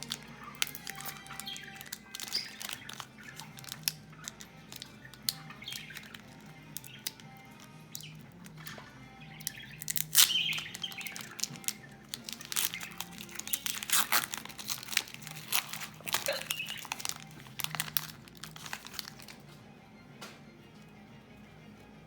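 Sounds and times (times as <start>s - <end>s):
wrapper tearing and crinkling: 0.0s - 8.6s, 9.7s - 19.4s.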